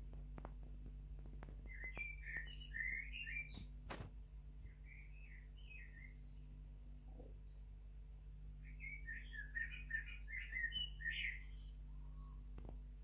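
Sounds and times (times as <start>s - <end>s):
blackbird singing: 0.0s - 3.8s, 4.6s - 7.6s, 8.5s - 13.0s.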